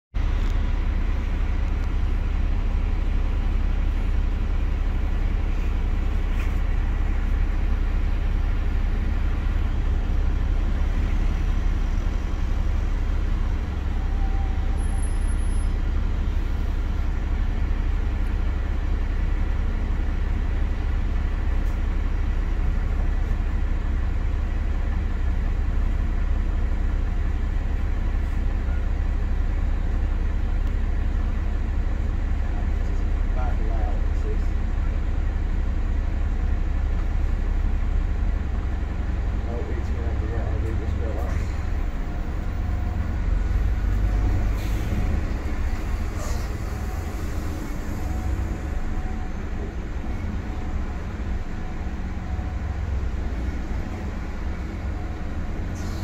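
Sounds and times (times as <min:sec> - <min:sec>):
bus engine and road rumble: 0:00.1 - 0:56.0.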